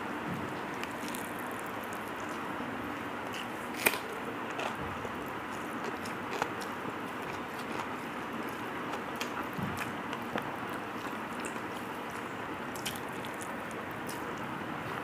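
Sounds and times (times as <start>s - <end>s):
person chewing: 0.6s - 2.5s, 3.2s - 14.3s.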